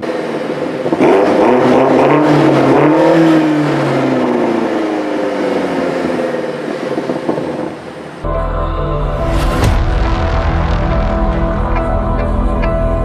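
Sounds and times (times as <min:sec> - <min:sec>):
car engine revving: 0:00.0 - 0:08.4, 0:09.0 - 0:13.0.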